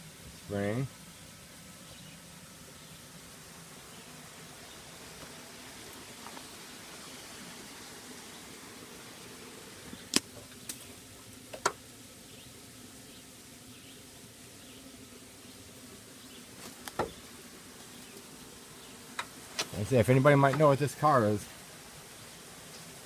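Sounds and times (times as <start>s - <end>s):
flying insect buzzing: 0.0s - 23.0s.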